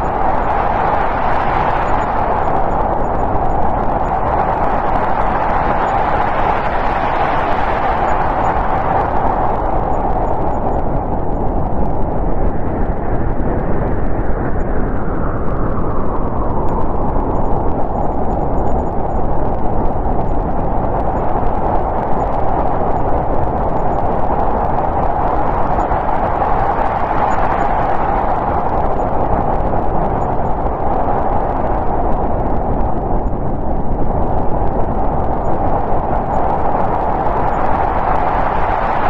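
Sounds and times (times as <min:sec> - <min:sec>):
wind blowing hard: 0:00.0 - 0:39.0.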